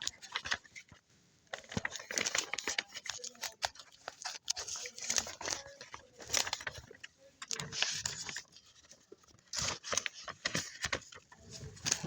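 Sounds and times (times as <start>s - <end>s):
close rustling and crinkling: 0.0s - 12.0s.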